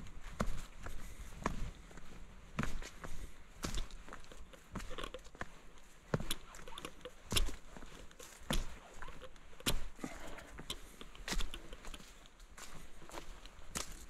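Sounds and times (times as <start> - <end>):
footsteps walking: 0.0 - 14.0
faint scuffs and clicks: 0.2 - 14.0.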